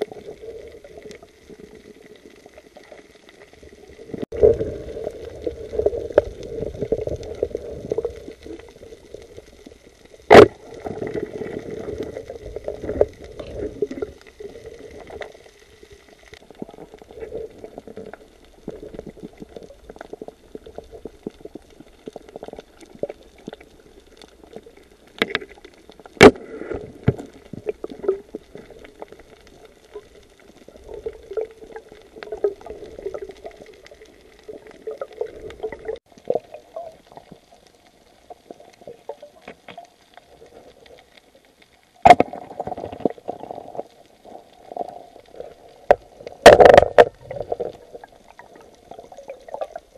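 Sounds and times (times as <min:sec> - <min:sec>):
underwater gurgling and bubbling: 0:00.0 - 0:49.9.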